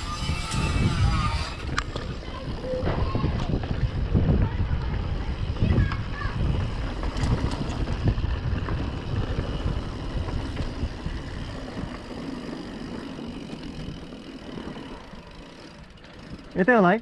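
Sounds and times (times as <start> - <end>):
wind buffeting microphone: 0.0 - 16.9
bike tyres and frame rattling: 0.0 - 17.0.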